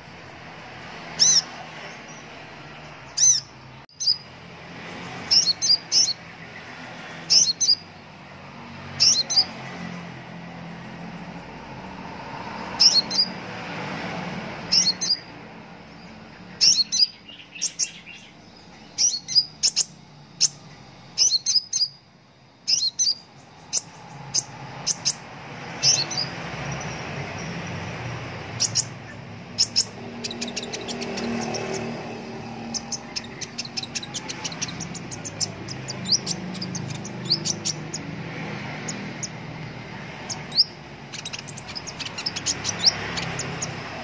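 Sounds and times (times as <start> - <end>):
bird chirping: 0.0 - 44.0.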